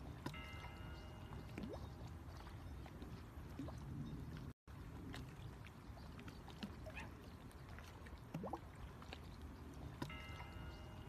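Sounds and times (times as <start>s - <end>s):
small waves lapping and gurgling: 0.0s - 11.0s.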